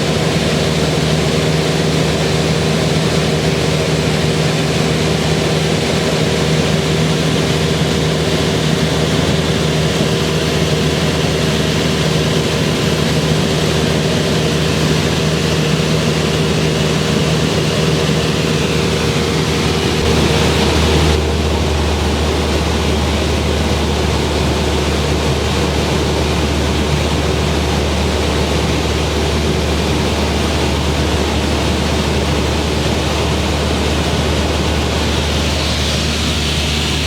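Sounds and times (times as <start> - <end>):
airflow noise: 0.0 - 37.0
propeller plane engine droning: 0.0 - 37.0.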